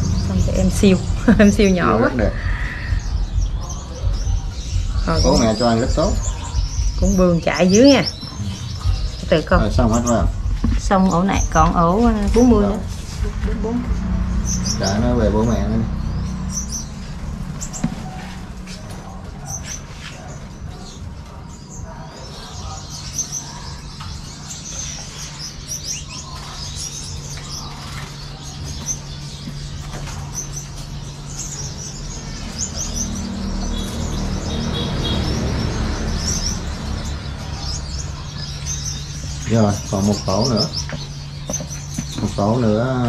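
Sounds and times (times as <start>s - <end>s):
finches chirping: 0.0s - 43.0s
steady low hum: 0.0s - 43.0s.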